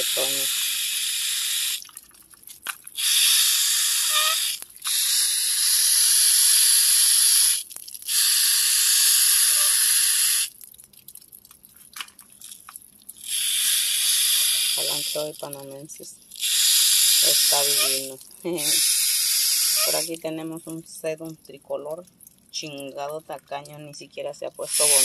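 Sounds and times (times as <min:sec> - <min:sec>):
garden hose spraying: 0:00.0 - 0:25.0.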